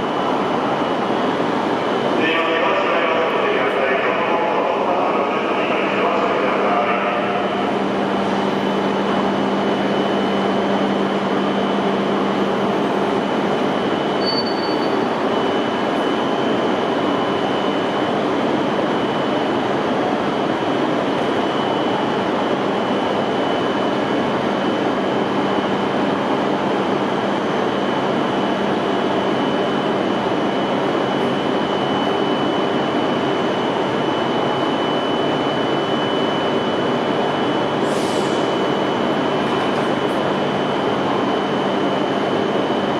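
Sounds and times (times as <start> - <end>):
high-speed train noise: 0.0 - 42.9.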